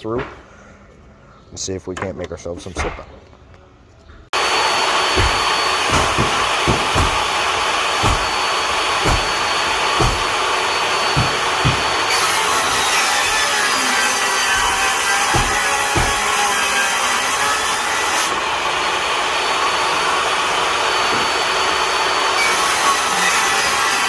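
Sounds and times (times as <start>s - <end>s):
table saw ripping wood: 4.4s - 24.0s.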